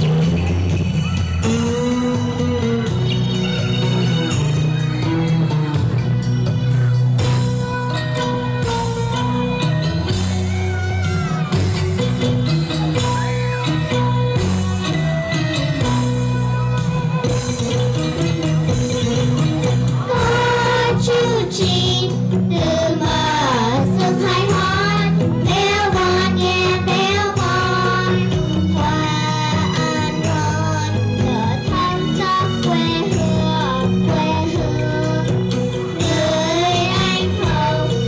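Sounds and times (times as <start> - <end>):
sustained accompaniment with bass: 0.0 - 38.0.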